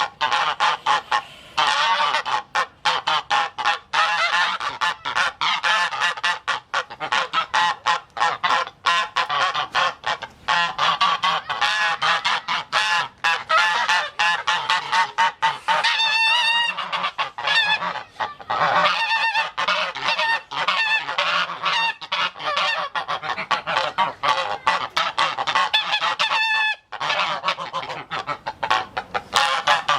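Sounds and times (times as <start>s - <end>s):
geese honking: 0.0s - 29.9s.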